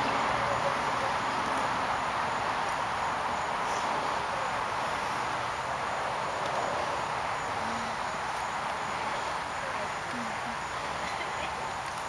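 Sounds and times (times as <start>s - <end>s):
insects chirping: 0.0s - 12.0s
steady outdoor hiss: 0.0s - 12.0s.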